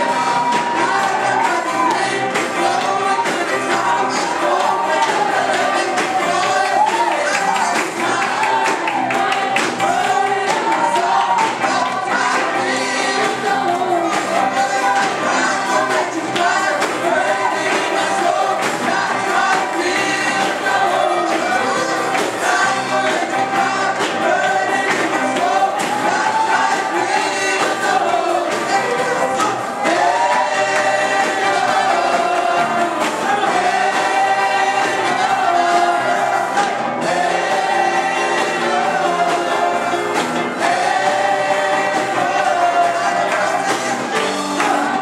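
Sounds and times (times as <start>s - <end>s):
group singing praise song: 0.0s - 45.0s.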